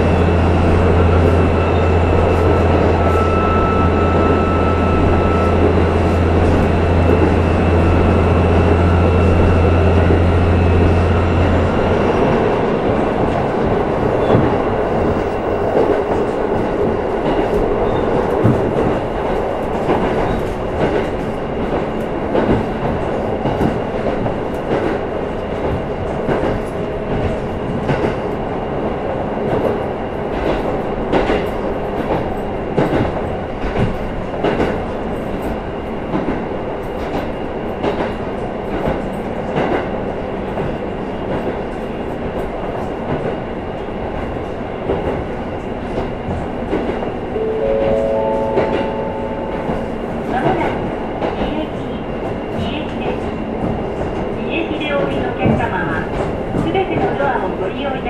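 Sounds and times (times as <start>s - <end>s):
railcar rolling rumble: 0.0s - 58.0s.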